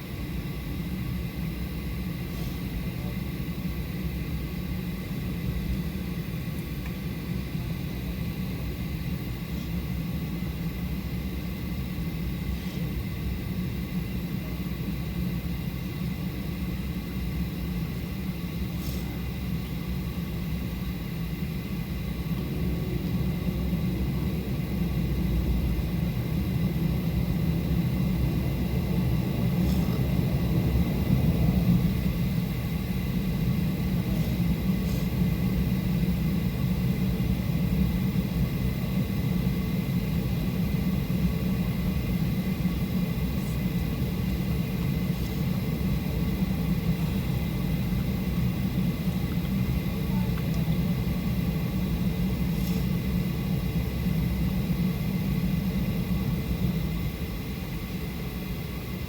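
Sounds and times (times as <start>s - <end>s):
aircraft cabin low rumble: 0.0s - 59.0s.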